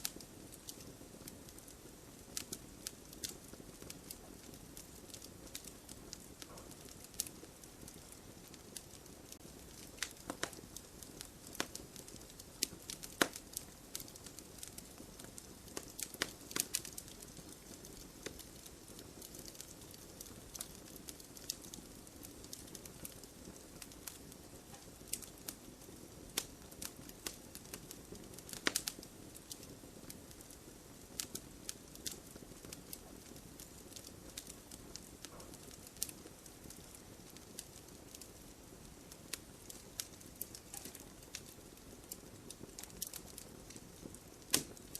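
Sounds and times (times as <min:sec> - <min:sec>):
rush of campfire flame: 0:00.0 - 0:44.9
wood crackling and popping: 0:00.0 - 0:44.9.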